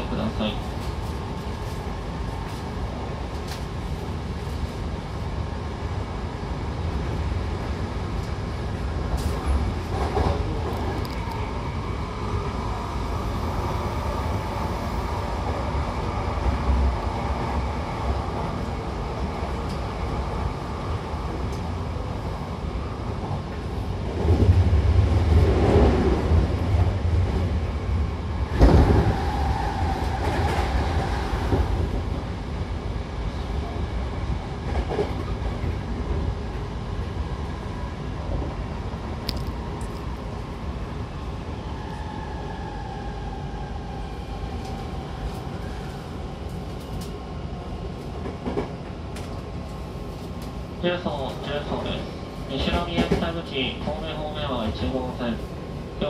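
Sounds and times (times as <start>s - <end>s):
train wheel and motor noise: 0.4s - 54.3s.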